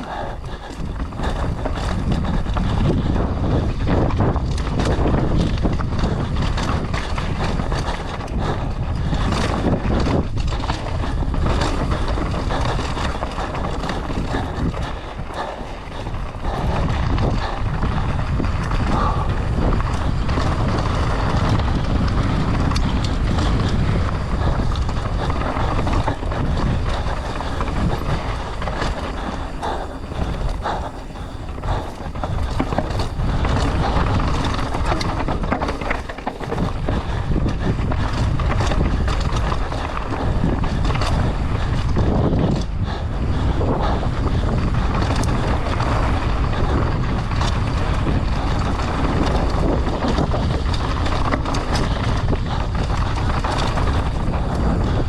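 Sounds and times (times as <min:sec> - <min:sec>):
bike tyres rolling on dirt: 0:00.0 - 0:55.0
wind on microphone: 0:00.0 - 0:55.0.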